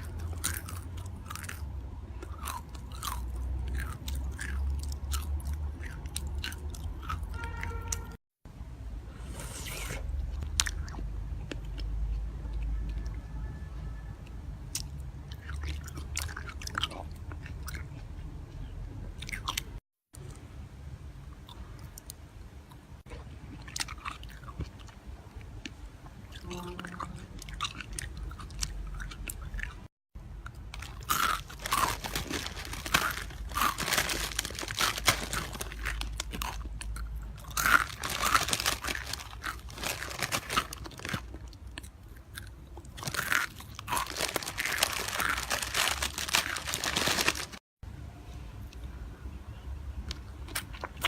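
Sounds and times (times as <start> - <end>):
chewing crunchy food: 0.0 - 8.1, 9.6 - 13.2, 14.7 - 20.4, 21.4 - 47.6, 50.1 - 51.0.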